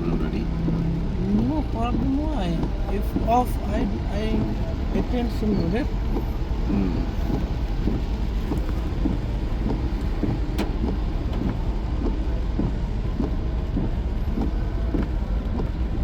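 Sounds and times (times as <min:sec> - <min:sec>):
car driving in the rain: 0:00.0 - 0:16.0.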